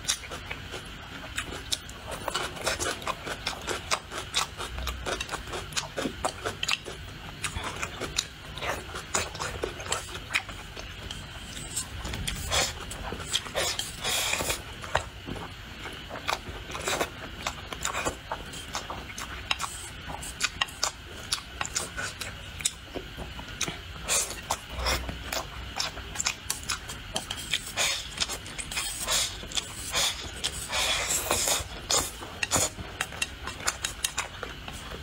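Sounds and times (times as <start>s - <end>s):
wet chewing and lip smacking: 0.0s - 35.0s.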